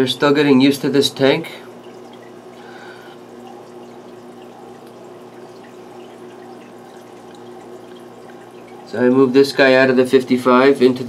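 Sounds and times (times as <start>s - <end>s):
low constant hum: 0.0s - 11.0s
water trickling and splashing: 0.5s - 11.0s.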